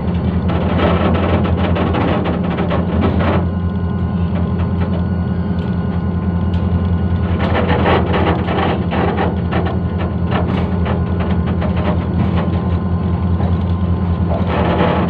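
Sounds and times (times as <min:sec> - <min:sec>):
locomotive engine drone: 0:00.0 - 0:15.0
train rattling and clanking: 0:00.0 - 0:15.0.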